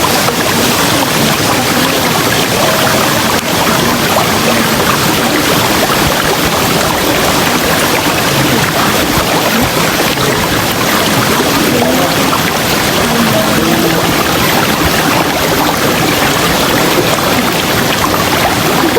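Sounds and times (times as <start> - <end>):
river water flowing: 0.0 - 18.9.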